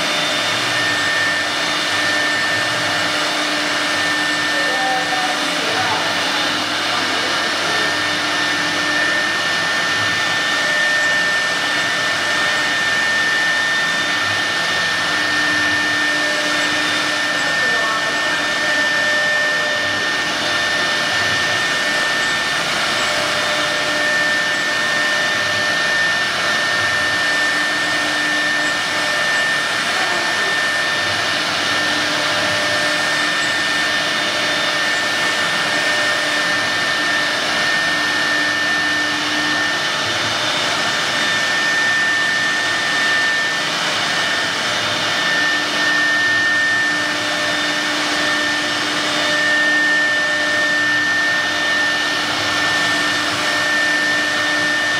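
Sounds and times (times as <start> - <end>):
router spindle whine: 0.0 - 54.9.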